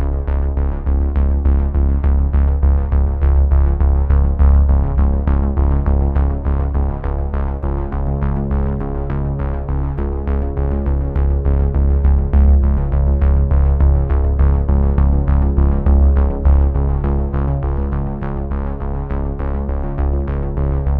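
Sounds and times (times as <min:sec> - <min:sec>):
sustained low bass: 0:00.0 - 0:20.9.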